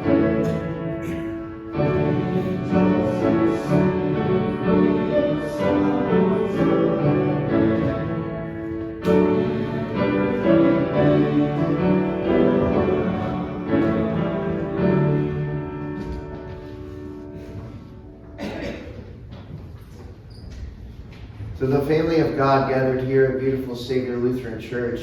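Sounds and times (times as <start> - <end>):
church music on keyboard: 0.0 - 19.0, 21.6 - 25.0.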